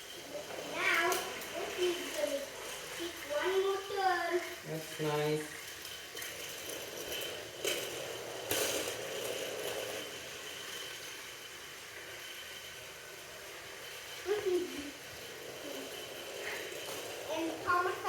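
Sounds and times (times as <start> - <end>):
sharp clatters: 0.0 - 18.0
toy train whirring on track: 0.0 - 18.0.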